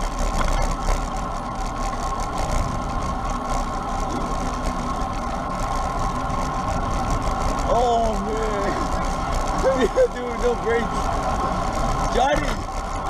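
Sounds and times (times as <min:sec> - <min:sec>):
bicycle wind and road noise: 0:00.0 - 0:13.0
steady hum: 0:00.0 - 0:13.0.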